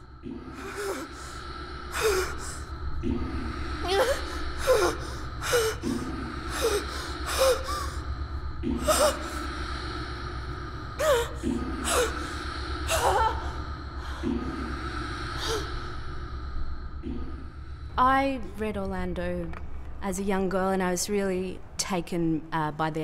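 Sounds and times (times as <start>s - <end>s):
low pulsing drone: 0.0s - 23.0s.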